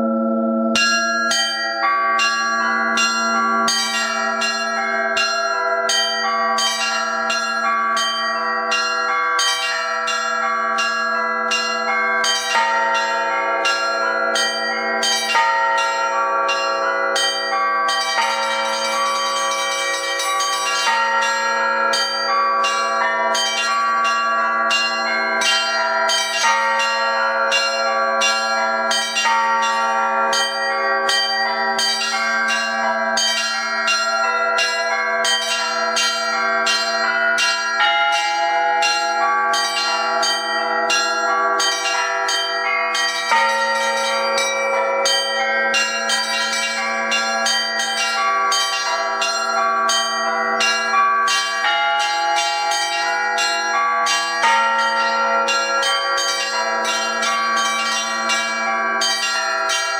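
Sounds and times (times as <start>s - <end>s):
bells ringing: 0.0s - 59.9s.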